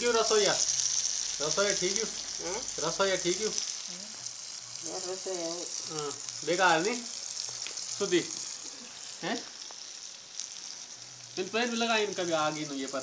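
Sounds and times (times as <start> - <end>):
onions and tomatoes sizzling: 0.0 - 13.0.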